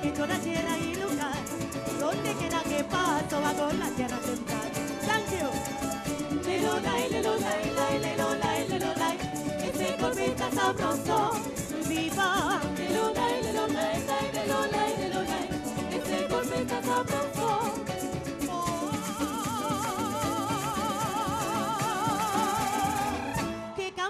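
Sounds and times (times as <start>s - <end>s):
plucked-string band with mandolin: 0.0s - 24.0s
woman singing with vibrato: 0.0s - 24.0s.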